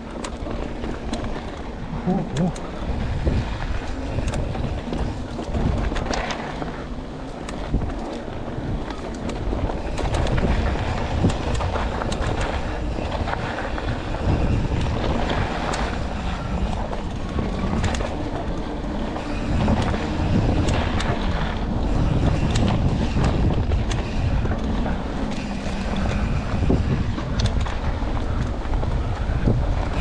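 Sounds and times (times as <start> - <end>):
bike rattles and knocks: 0.0 - 30.0
tyres rolling on dirt: 0.0 - 30.0
wind on microphone: 0.0 - 30.0.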